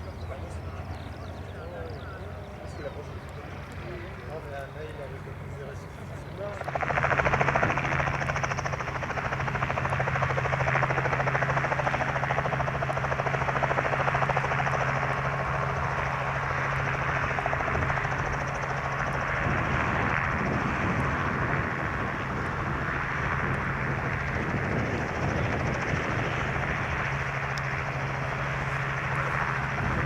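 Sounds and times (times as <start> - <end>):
propeller aircraft engine droning: 0.0 - 30.0.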